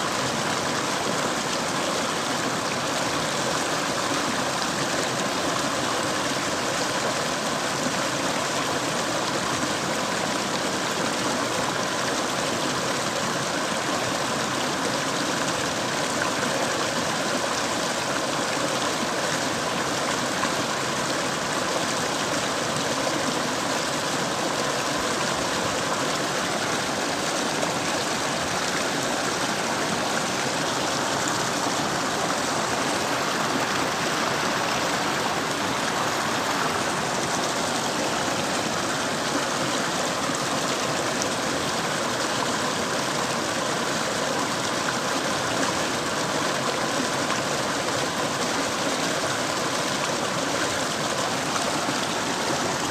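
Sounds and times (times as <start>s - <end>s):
stream rushing over rocks: 0.0s - 52.9s.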